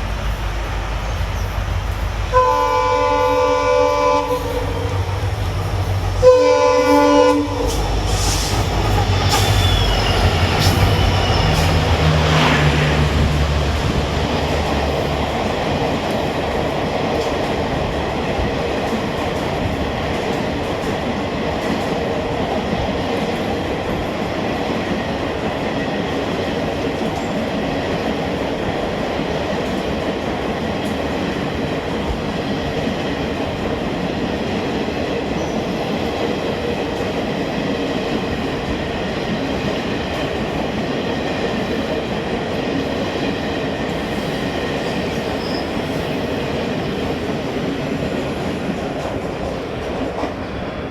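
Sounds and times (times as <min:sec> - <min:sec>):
train wheels rushing on rails: 0:00.0 - 0:50.9.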